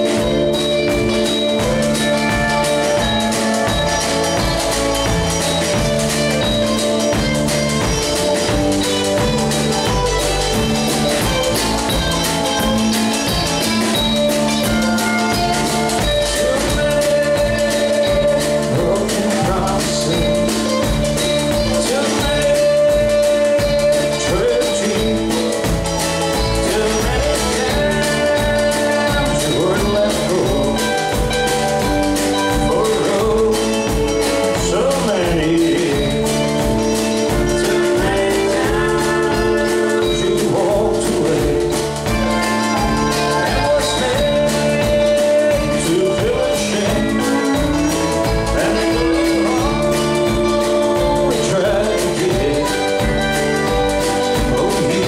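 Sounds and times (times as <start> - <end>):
acoustic guitar: 0.0 - 55.0
drum kit: 0.0 - 55.0
electric bass: 0.0 - 55.0
sliding pedal steel guitar: 0.0 - 55.0.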